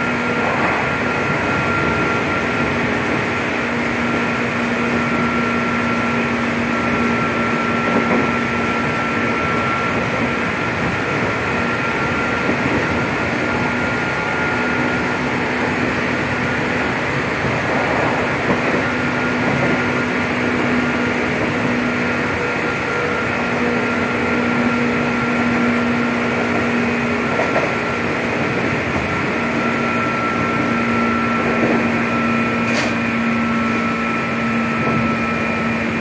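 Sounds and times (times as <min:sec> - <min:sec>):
traction motor hum and whine: 0:00.0 - 0:36.0
train wheels rumbling on rail: 0:00.0 - 0:36.0.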